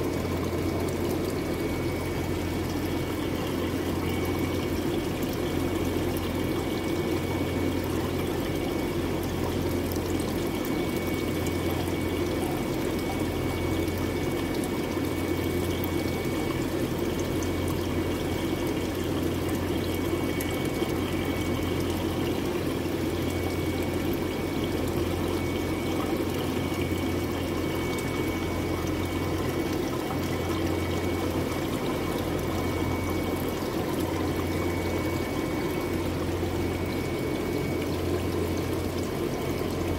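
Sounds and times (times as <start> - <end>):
constant low hum: 0.0 - 39.9
water running into tank: 0.0 - 39.9.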